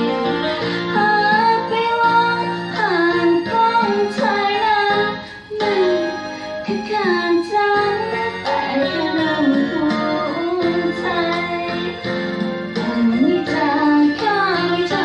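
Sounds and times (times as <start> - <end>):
instrumental backing: 0.0 - 15.0
woman singing: 0.8 - 12.1, 12.8 - 15.0.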